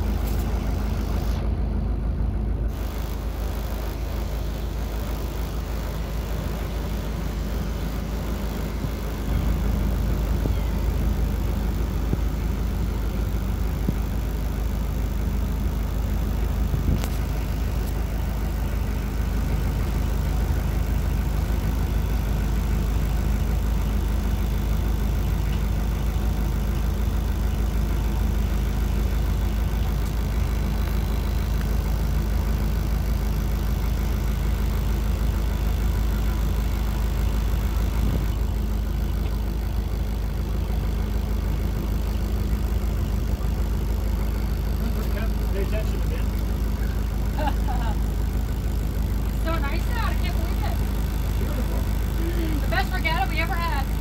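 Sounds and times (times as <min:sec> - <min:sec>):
boat motor running: 0:00.0 - 0:54.0.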